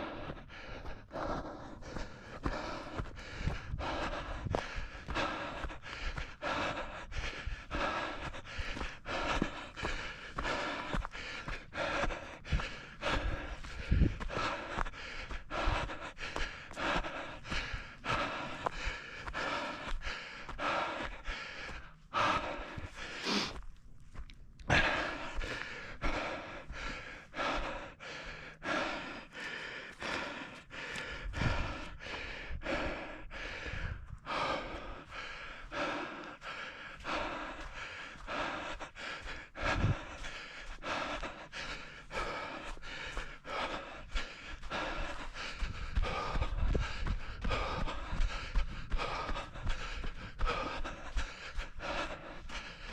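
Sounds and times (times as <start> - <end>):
person panting: 0.0 - 52.9
running footsteps: 0.0 - 52.9.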